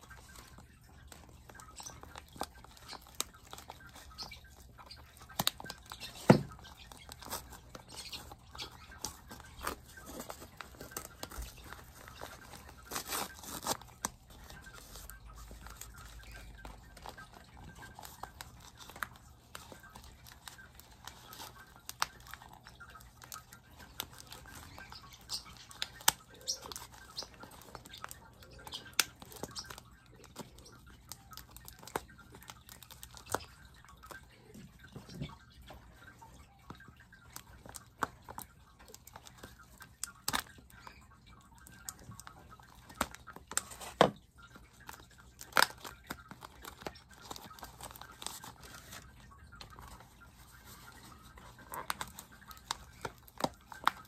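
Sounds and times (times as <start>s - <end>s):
paper rustling and crinkling: 0.0s - 40.8s, 41.7s - 54.0s.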